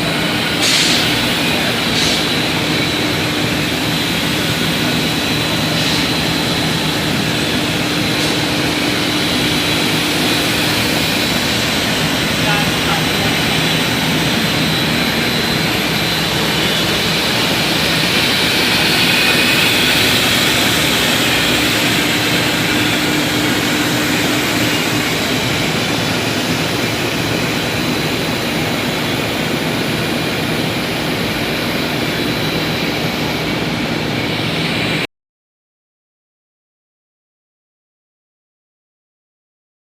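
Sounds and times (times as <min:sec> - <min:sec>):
loud steady machine noise: 0:00.0 - 0:35.1.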